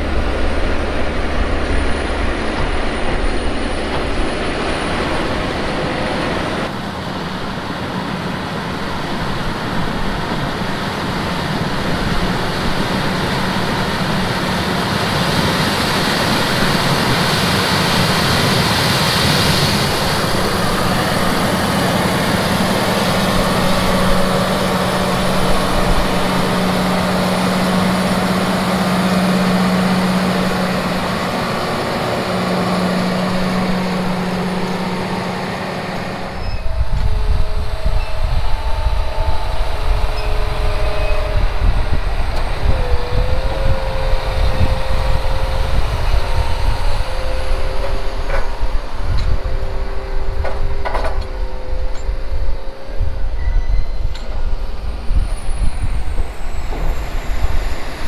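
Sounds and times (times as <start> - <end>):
tractor engine running: 0.0 - 53.0
forage harvester humming: 0.0 - 57.9.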